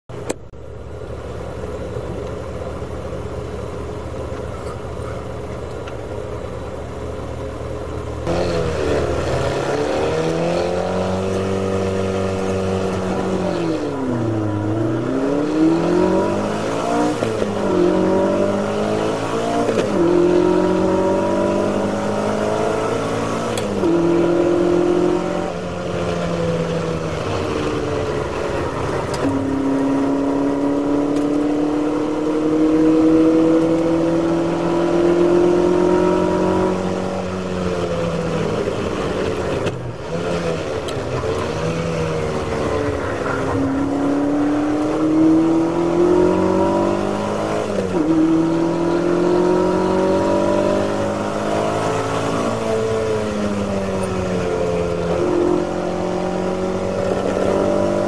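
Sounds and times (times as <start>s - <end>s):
race car engine revving: 8.1s - 58.0s.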